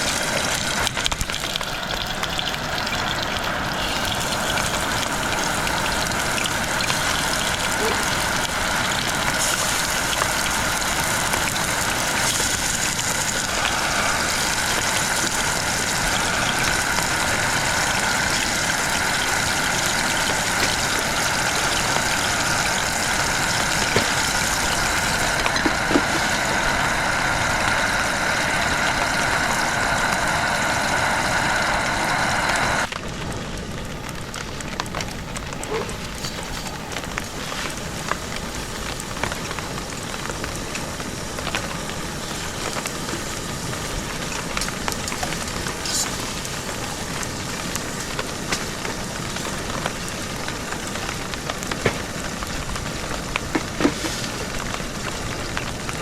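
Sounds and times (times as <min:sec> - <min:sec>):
heavy rain hissing: 0:00.0 - 0:56.0
scattered raindrops: 0:00.0 - 0:56.0.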